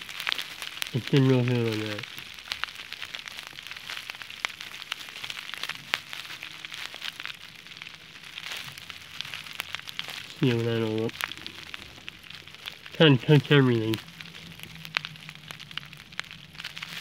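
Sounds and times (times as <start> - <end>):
brush clicks and crackles: 0.0 - 17.0
steady hiss: 0.0 - 17.0.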